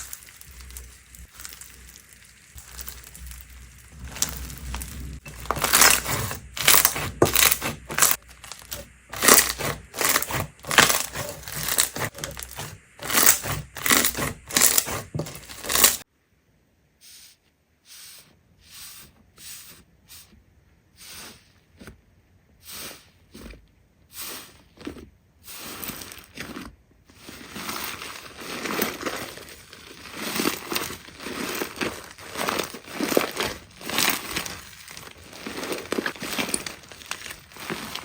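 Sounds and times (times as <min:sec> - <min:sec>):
slime squishing by hand: 0:00.0 - 0:16.0, 0:21.0 - 0:38.0.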